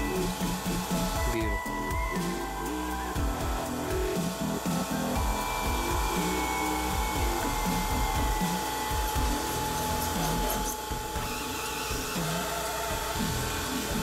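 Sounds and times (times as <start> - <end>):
sharpening wheel motor whine: 0.0 - 14.0.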